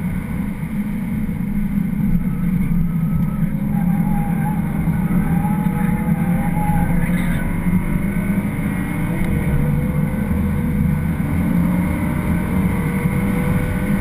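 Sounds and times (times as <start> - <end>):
car engine drone: 0.0 - 14.0
road noise: 0.0 - 14.0.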